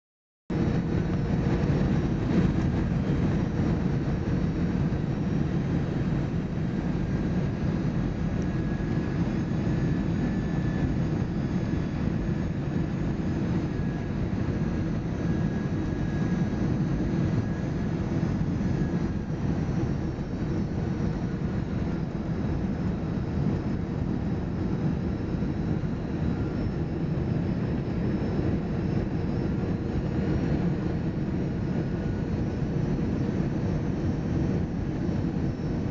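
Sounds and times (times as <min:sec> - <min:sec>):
airplane cabin rumble: 0:00.5 - 0:35.9
faint whine: 0:00.5 - 0:35.9.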